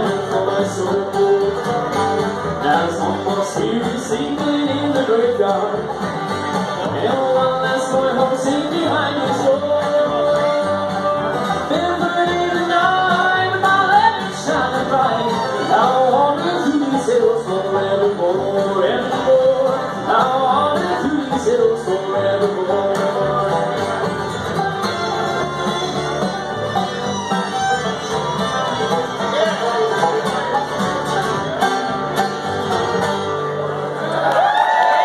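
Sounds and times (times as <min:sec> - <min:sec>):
banjo: 0:00.0 - 0:34.6
upright bass: 0:00.0 - 0:34.6
acoustic guitar: 0:00.0 - 0:35.0
fiddle: 0:00.0 - 0:35.0.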